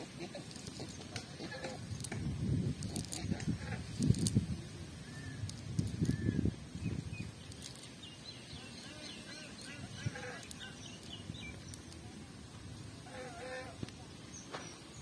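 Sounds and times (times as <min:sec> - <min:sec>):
wind buffeting microphone: 0:00.9 - 0:13.1.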